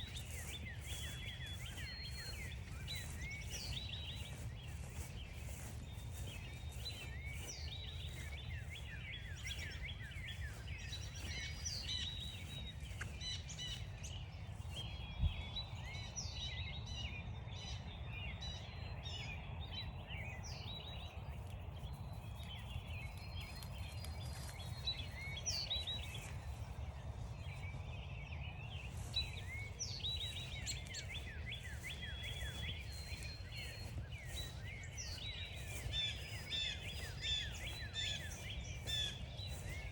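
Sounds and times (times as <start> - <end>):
footsteps crunching on frosty grass: 0.0 - 16.0, 20.1 - 39.9
songbirds chirping and trilling: 0.0 - 39.9.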